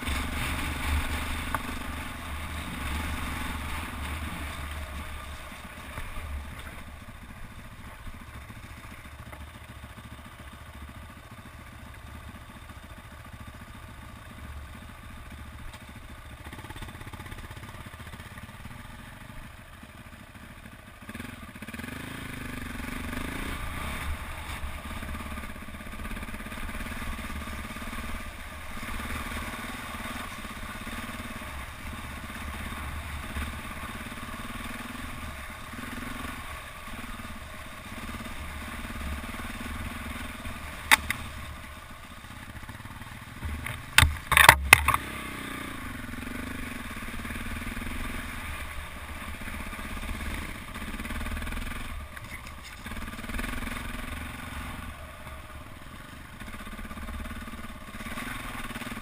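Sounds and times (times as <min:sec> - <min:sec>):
motorbike engine running: 0:00.0 - 0:59.0.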